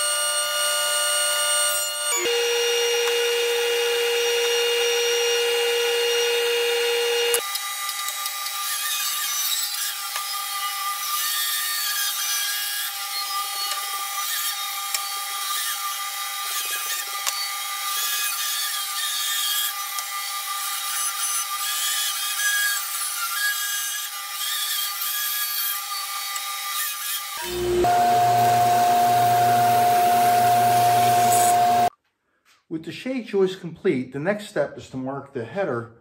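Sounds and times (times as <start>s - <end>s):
bandsaw cutting wood: 1.3s - 31.9s.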